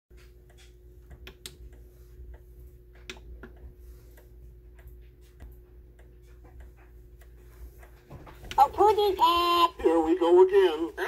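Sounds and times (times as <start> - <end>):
clock mechanism clicking: 0.2 - 9.6
faint steady hum: 0.2 - 11.0.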